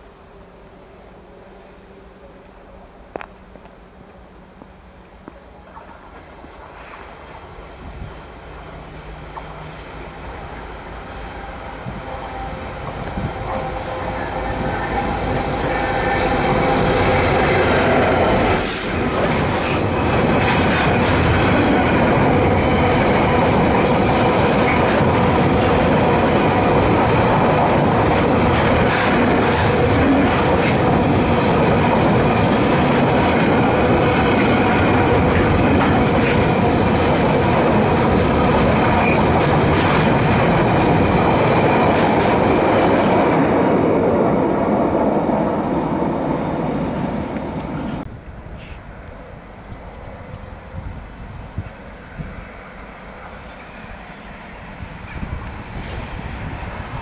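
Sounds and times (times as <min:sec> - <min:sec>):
diesel locomotive passing: 0:00.0 - 0:57.0
train wheels rumbling on rail: 0:03.1 - 0:57.0.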